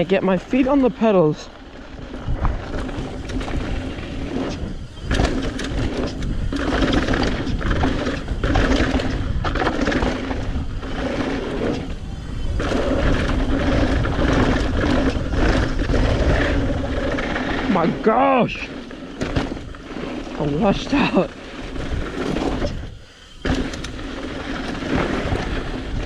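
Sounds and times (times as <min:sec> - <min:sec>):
bike tyres rolling over dirt: 0:00.0 - 0:26.0
wind buffeting microphone: 0:00.0 - 0:26.0.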